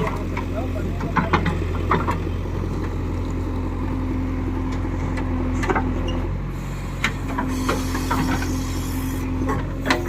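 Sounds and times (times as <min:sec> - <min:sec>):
diesel engine running low: 0:00.0 - 0:10.0.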